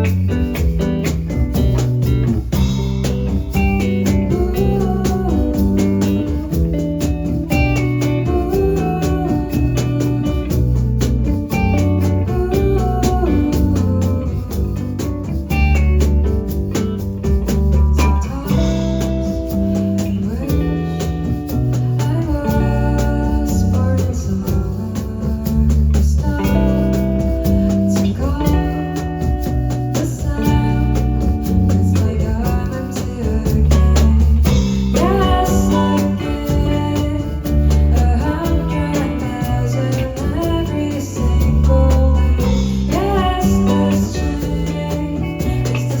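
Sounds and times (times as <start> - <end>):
acoustic guitar: 0.0 - 46.0
bass guitar: 0.0 - 46.0
person singing: 3.6 - 15.7, 18.0 - 29.3, 29.9 - 46.0.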